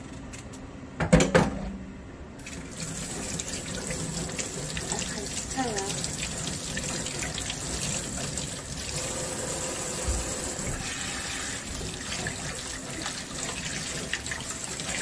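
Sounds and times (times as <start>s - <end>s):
faucet running into sink: 2.4s - 15.0s.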